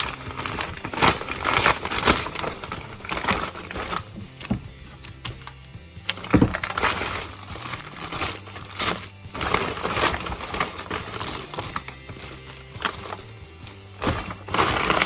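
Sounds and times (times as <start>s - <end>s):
food packaging crinkling: 0.0s - 5.4s, 6.1s - 15.0s
background music: 0.0s - 15.0s.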